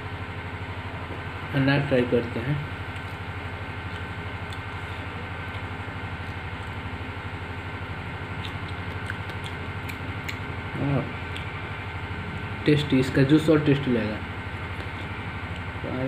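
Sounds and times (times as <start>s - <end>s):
low fluttering hum: 0.0s - 16.0s.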